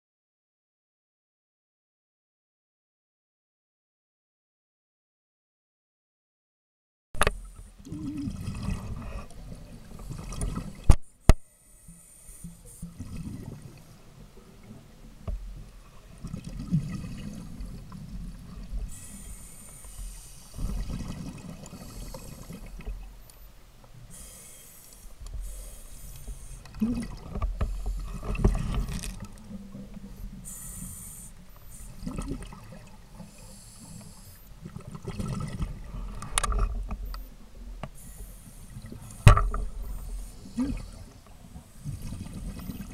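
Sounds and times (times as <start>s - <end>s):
underwater rumble of moving water: 7.2s - 42.9s.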